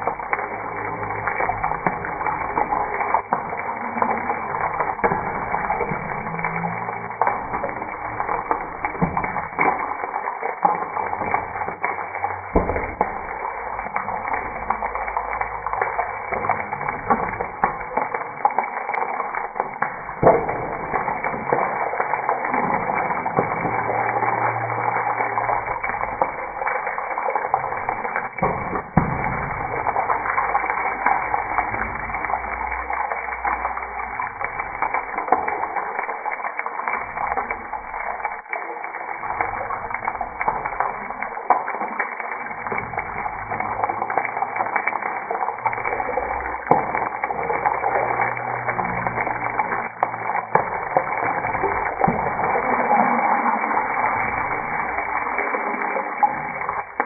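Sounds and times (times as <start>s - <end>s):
eggs sizzling in oil: 0.0s - 57.0s.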